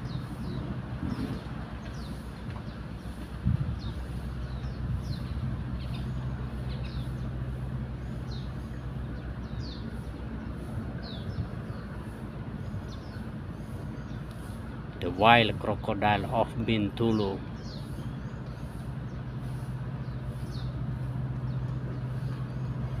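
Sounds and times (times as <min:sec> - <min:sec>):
low mechanical hum: 0:00.0 - 0:23.0
small birds chirping: 0:00.0 - 0:23.0.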